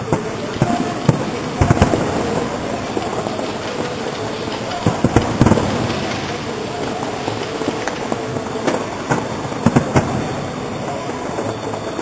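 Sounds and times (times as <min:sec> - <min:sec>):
fireworks exploding: 0:00.0 - 0:12.0
steady background noise: 0:00.0 - 0:12.0.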